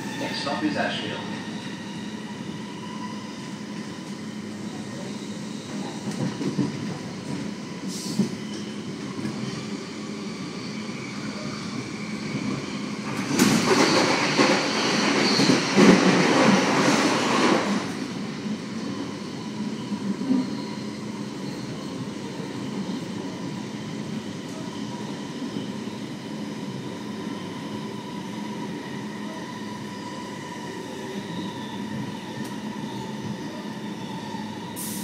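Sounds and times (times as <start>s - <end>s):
train passing alongside: 0.0s - 35.0s
train wheels rumbling on rails: 0.0s - 35.0s.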